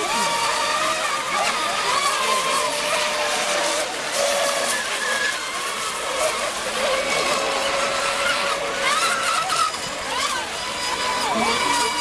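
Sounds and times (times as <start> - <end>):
rc boat motors whining: 0.0 - 12.0.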